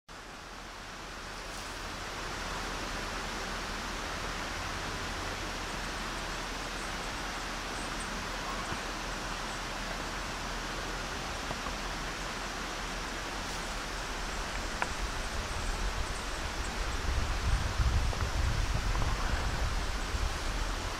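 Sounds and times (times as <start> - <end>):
waterfall rushing: 0.2 - 20.9.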